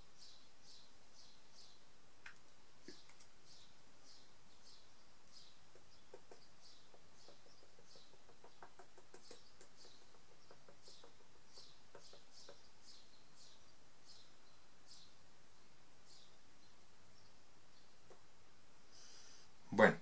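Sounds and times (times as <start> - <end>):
bird chirping: 0.0 - 18.4.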